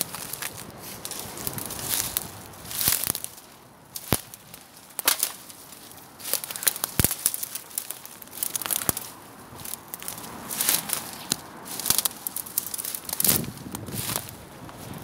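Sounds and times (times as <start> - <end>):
twig snapping: 0.0 - 14.3
footsteps crunching through dry leaves: 0.0 - 15.0.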